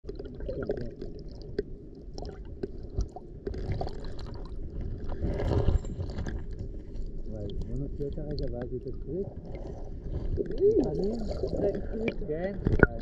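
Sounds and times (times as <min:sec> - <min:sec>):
seawater sloshing and gurgling: 0:00.1 - 0:13.0.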